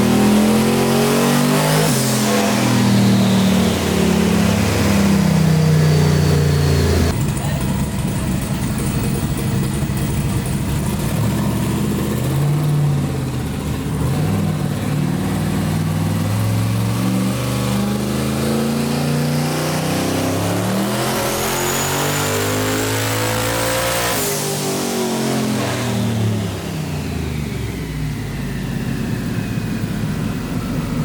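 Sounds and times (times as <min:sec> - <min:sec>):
engine revving under load: 0:00.0 - 0:07.2, 0:10.8 - 0:31.0.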